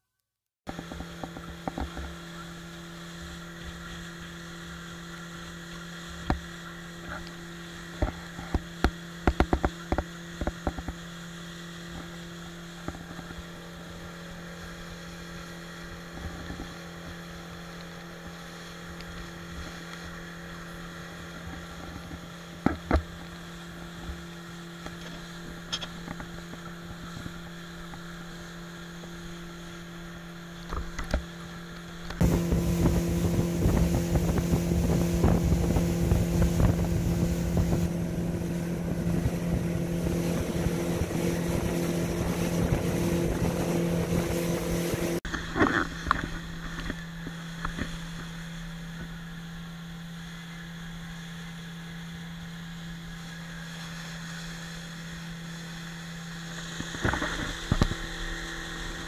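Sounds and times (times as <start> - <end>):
outboard motor running: 0.7 - 59.0.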